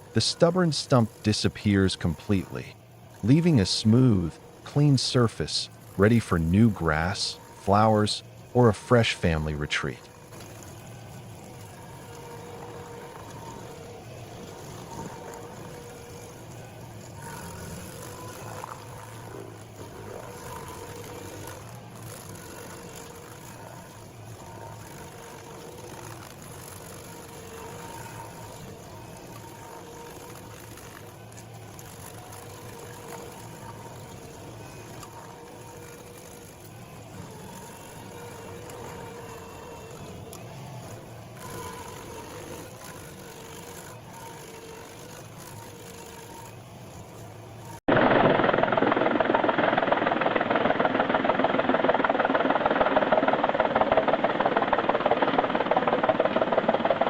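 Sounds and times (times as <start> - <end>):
heavy machine engine hum: 0.0 - 57.0.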